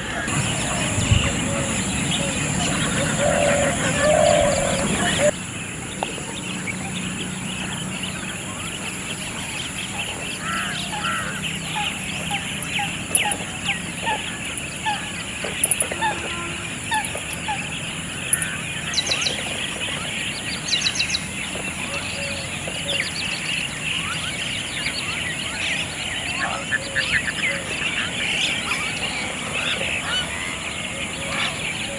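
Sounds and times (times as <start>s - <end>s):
chorus of wild birds calling: 0.0s - 31.9s.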